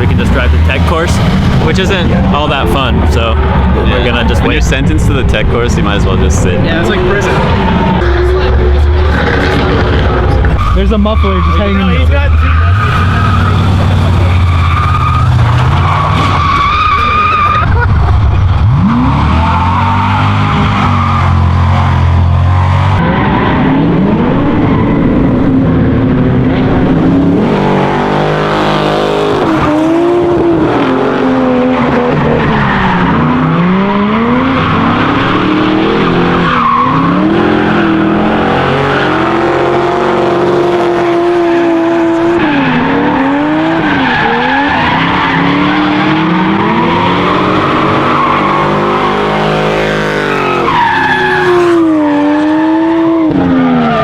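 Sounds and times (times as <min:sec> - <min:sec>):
car engines revving: 0:00.0 - 0:54.0
tyres squealing and skidding: 0:00.0 - 0:54.0.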